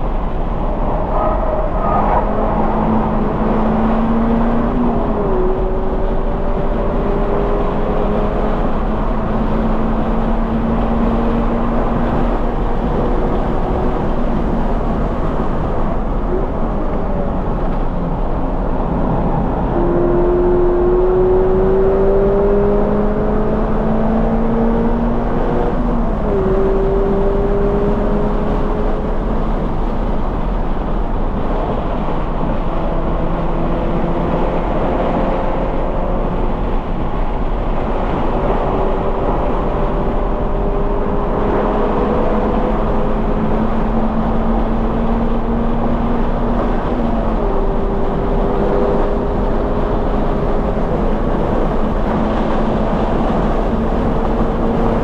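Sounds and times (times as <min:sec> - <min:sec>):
car engine accelerating: 0:00.0 - 0:55.0
road and wind noise: 0:00.0 - 0:55.0.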